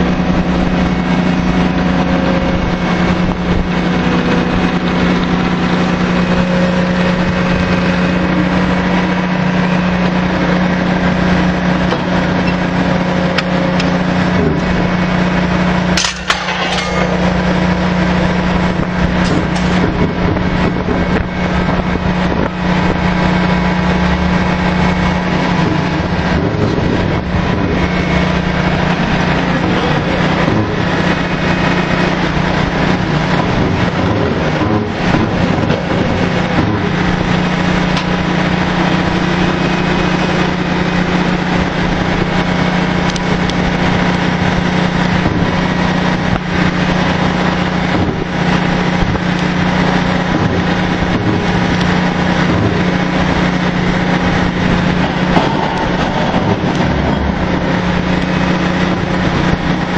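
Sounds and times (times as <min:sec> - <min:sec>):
drilling rig engine drone: 0:00.0 - 0:59.9.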